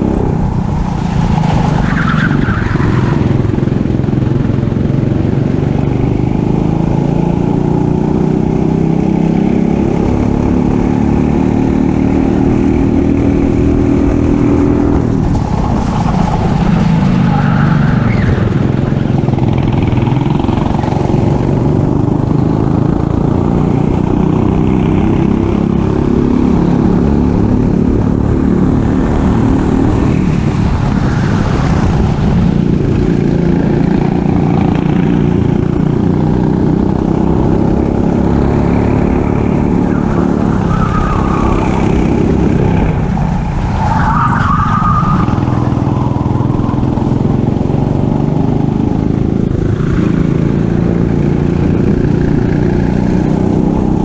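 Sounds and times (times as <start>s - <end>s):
racing kart engine revving: 0.0s - 54.0s.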